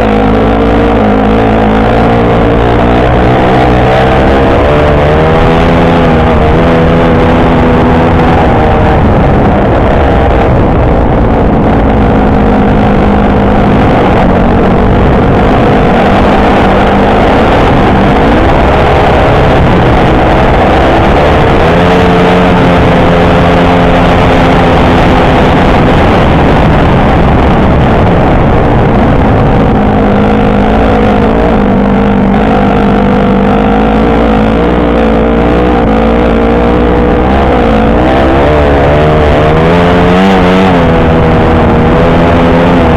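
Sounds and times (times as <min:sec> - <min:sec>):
dirt bike engine revving: 0:00.0 - 0:42.9
wind rush on microphone: 0:00.0 - 0:42.9.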